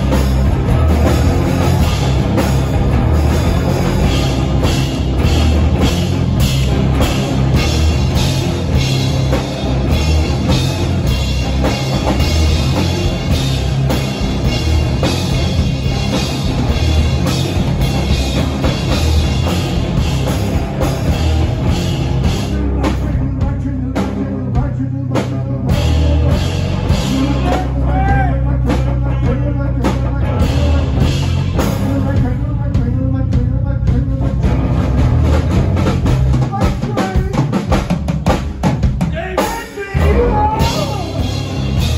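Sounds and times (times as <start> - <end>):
bass guitar: 0.0 - 41.9
drum kit: 0.0 - 41.9.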